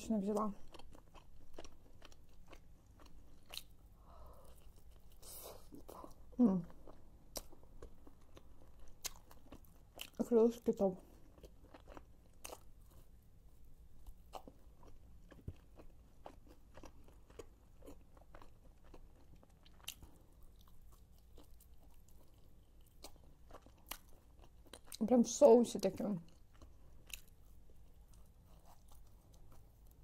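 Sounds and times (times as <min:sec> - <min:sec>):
chewing and biting: 0:00.3 - 0:10.2, 0:11.0 - 0:13.2, 0:14.0 - 0:25.0, 0:26.3 - 0:30.0.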